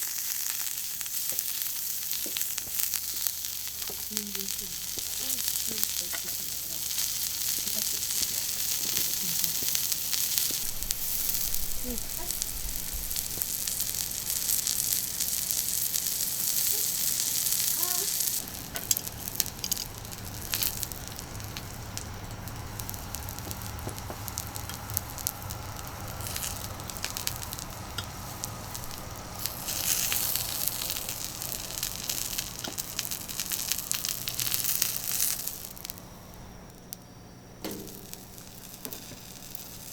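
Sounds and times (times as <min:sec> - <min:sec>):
food sizzling on a griddle: 0:00.0 - 0:39.9
small pops and crackles: 0:00.0 - 0:39.9.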